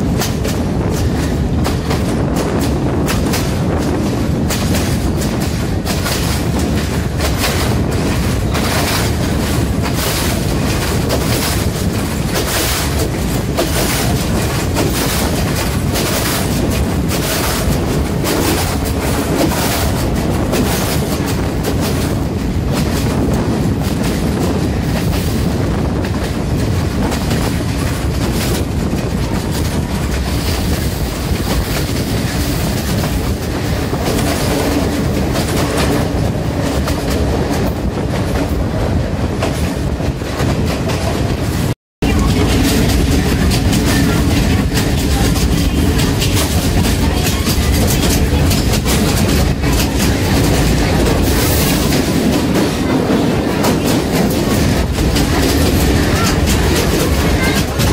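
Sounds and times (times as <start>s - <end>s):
train wheels rumbling on rail: 0.0s - 57.9s
wheels clicking over rail joints: 0.0s - 57.9s.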